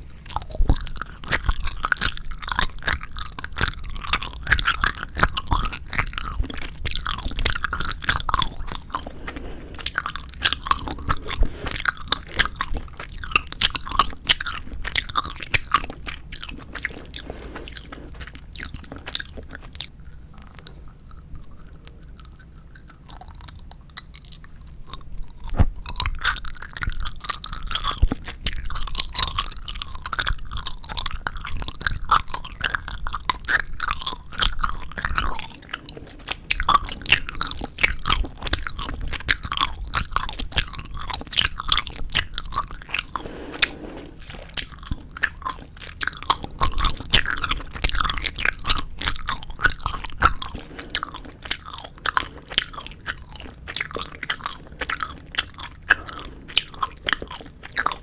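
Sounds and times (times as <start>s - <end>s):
chewing gummy candy: 0.0s - 58.0s
mouth clicks and smacks: 0.2s - 58.0s.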